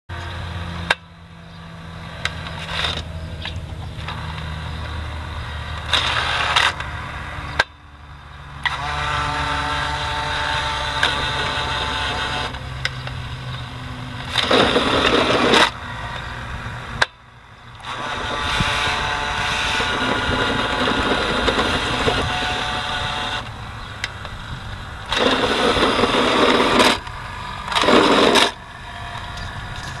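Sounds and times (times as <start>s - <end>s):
toy truck motor whining: 2.2s - 7.7s, 8.4s - 17.1s, 17.7s - 30.0s.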